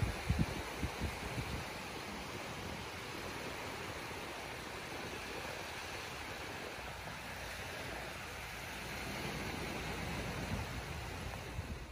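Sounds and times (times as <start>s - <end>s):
small waves washing onto beach: 0.0s - 11.9s
wind rumbling on microphone: 0.0s - 11.9s.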